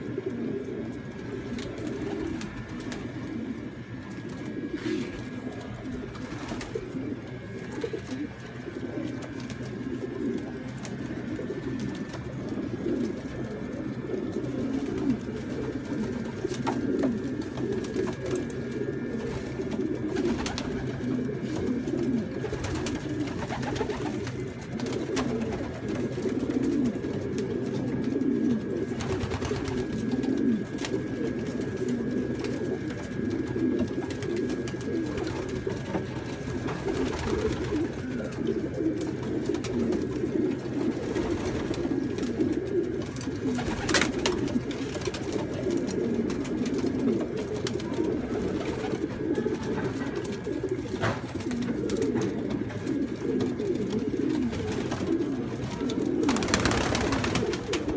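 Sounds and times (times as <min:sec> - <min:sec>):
pigeons cooing: 0:00.0 - 0:57.9.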